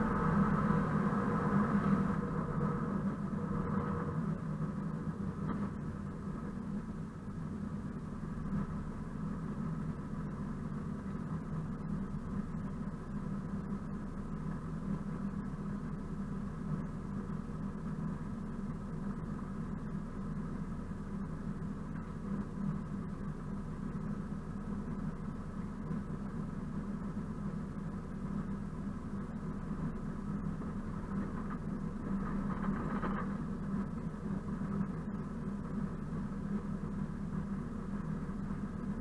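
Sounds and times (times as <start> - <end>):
locomotive diesel engine running: 0.0 - 39.0.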